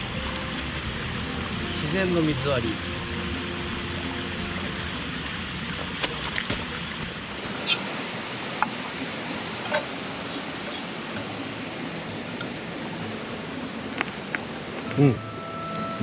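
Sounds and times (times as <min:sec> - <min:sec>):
river running: 0:00.0 - 0:16.0.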